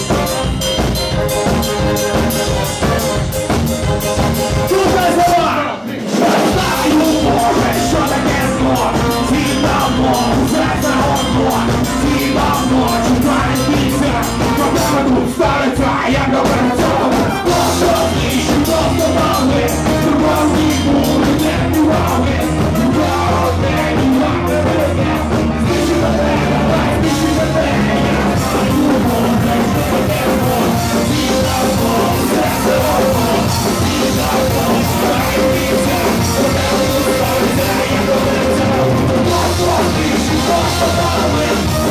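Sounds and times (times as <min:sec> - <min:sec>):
brass section: 0:00.0 - 0:41.9
drum kit: 0:00.0 - 0:41.9
keyboard: 0:00.0 - 0:41.9.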